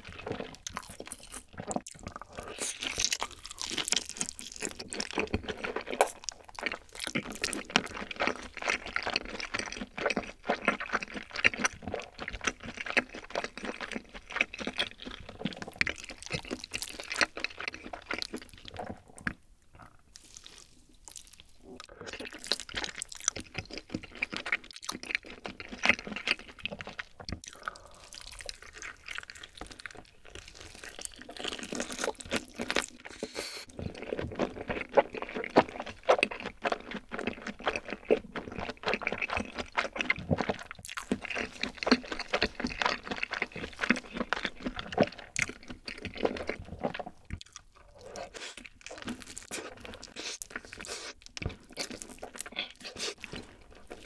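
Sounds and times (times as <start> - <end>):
close chewing with wet mouth sounds: 0.0 - 54.0
crunchy bites: 0.0 - 54.0.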